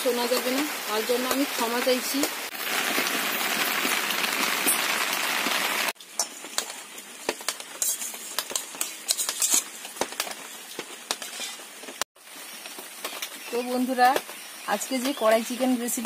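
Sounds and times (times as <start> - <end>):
heavy rain on a roof: 0.0 - 7.8, 9.7 - 16.0.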